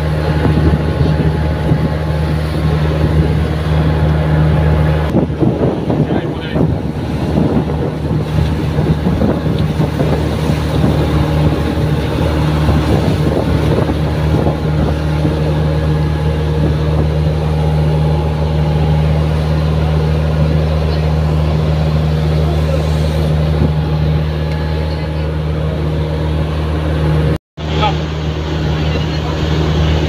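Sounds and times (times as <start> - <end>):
wind buffeting microphone: 0.0 - 27.4
boat engine droning: 0.0 - 30.0.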